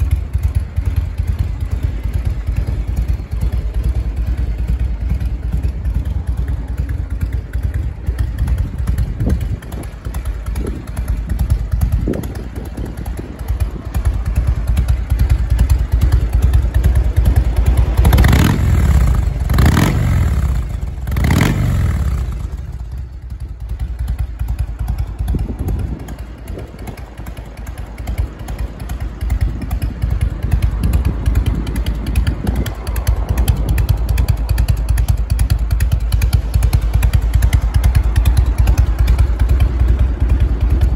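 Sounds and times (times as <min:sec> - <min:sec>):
motorcycle engine loping idle: 0:00.0 - 0:40.9.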